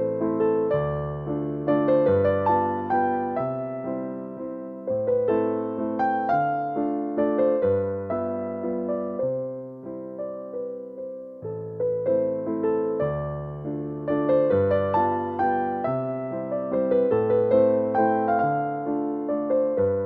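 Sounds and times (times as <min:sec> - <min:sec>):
slow piano melody: 0:00.0 - 0:20.0.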